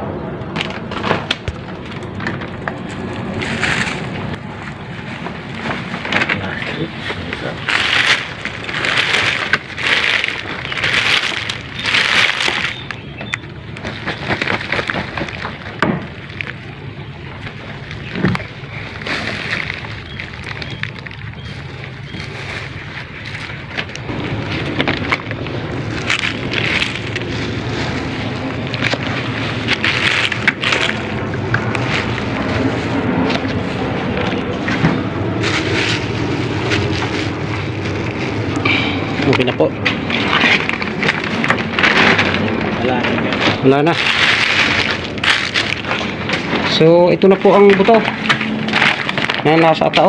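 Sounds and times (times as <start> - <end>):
steady low rumble: 0.0 - 50.0
plastic sheeting rustling: 0.6 - 50.0.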